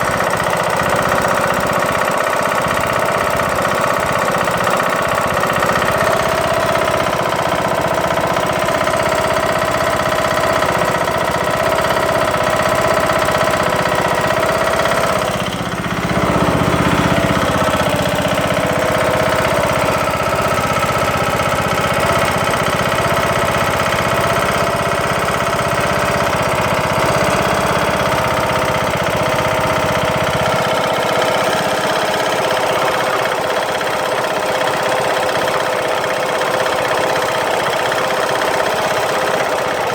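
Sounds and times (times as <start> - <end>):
lawn tractor engine knocking: 0.0 - 39.9.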